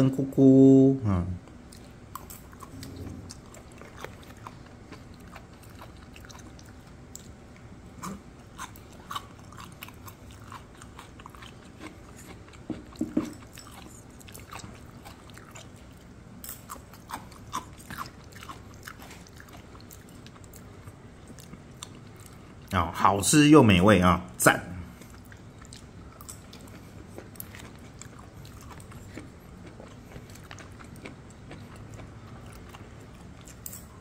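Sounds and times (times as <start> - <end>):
person chewing food: 1.4 - 22.8, 24.9 - 34.0.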